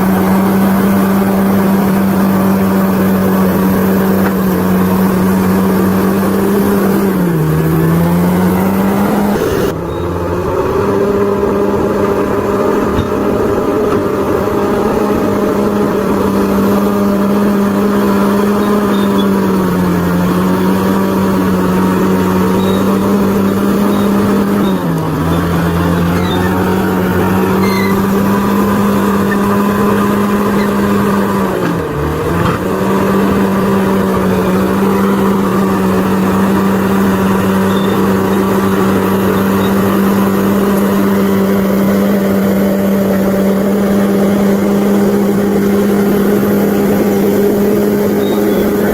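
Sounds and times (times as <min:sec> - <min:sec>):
bulldozer diesel engine revving: 0:00.0 - 0:48.9.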